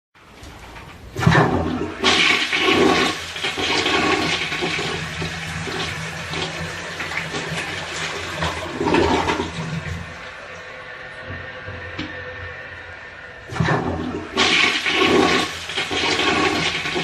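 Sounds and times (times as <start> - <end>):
toilet flushing: 0.2 - 17.0.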